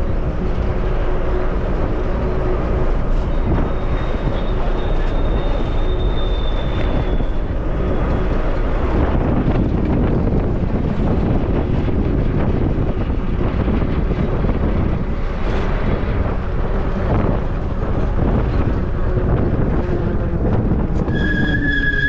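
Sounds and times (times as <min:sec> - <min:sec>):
bus engine and tyres rumbling: 0:00.0 - 0:22.0
wind buffeting microphone: 0:00.0 - 0:22.0.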